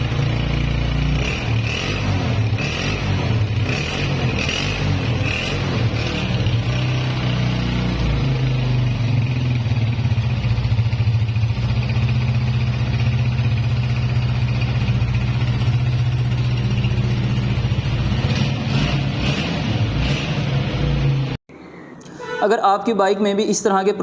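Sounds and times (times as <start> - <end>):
motorcycle engine idling: 0.0 - 19.2.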